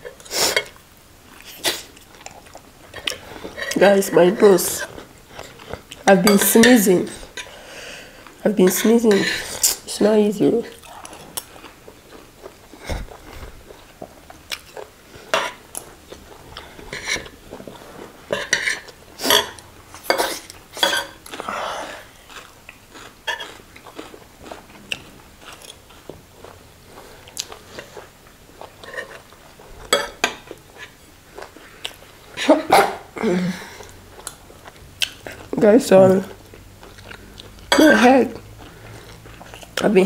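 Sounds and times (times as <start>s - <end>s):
chewing and mouth noises: 0.0s - 4.0s, 4.8s - 6.2s, 10.5s - 32.6s, 33.6s - 40.0s.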